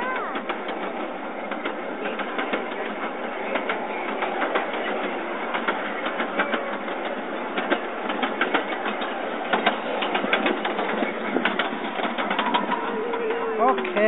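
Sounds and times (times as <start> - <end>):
miniature train running: 0.0 - 14.0
wheels clicking on rails: 0.0 - 14.0.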